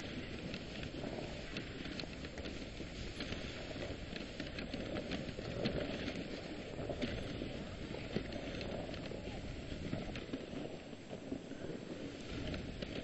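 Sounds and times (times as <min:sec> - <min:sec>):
sled runners scraping over snow: 0:00.0 - 0:13.0.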